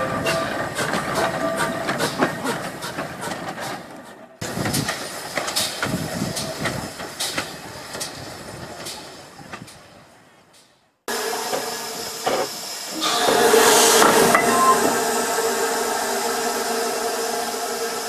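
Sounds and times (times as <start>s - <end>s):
train wheels clicking over rail joints: 0.0s - 15.0s
steam locomotive hiss: 0.0s - 18.0s.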